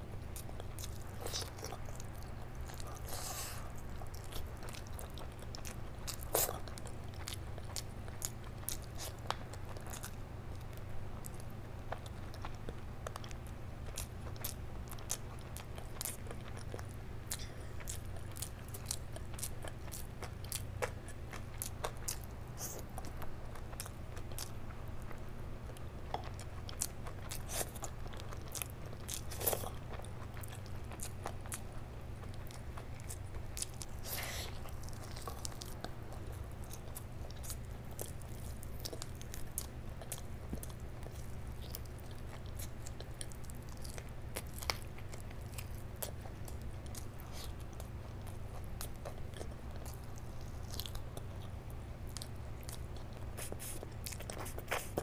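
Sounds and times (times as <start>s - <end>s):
steady low hum: 0.0s - 55.0s
wet chewing with smacks: 0.2s - 55.0s.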